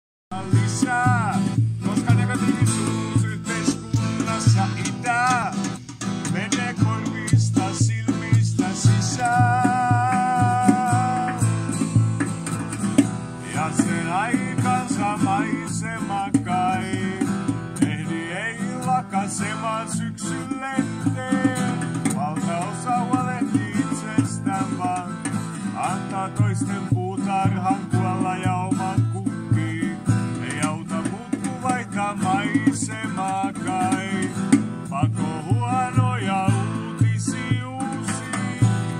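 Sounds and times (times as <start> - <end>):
acoustic guitar strumming: 0.3 - 38.9
box drum thumps: 0.3 - 38.9.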